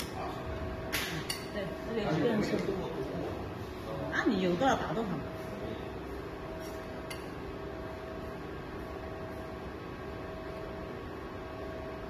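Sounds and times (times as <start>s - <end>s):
workshop hum and hiss: 0.0s - 12.0s.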